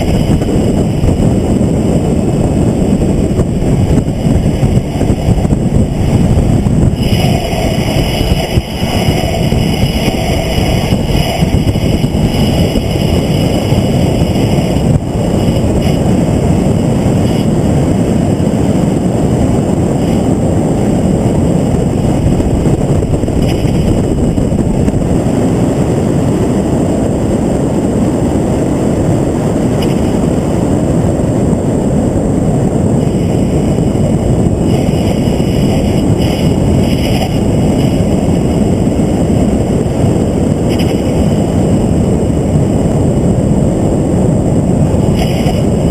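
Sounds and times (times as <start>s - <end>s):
engine noise: 0.0s - 45.9s
road noise: 0.0s - 45.9s
wind buffeting microphone: 0.0s - 45.9s.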